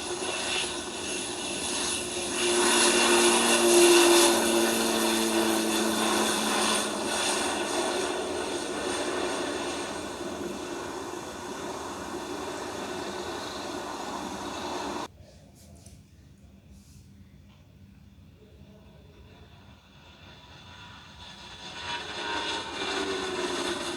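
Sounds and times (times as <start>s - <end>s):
airliner engines whining: 0.0s - 15.1s, 19.2s - 23.9s.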